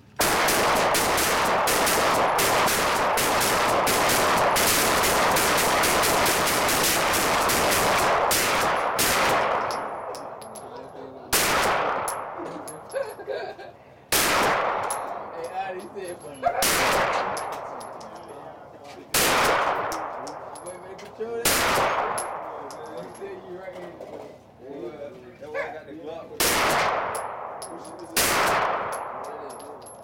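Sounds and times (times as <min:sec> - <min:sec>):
pistol shots echoing: 0:00.0 - 0:10.6, 0:11.3 - 0:13.0, 0:14.1 - 0:18.2, 0:19.1 - 0:23.2, 0:26.4 - 0:30.0.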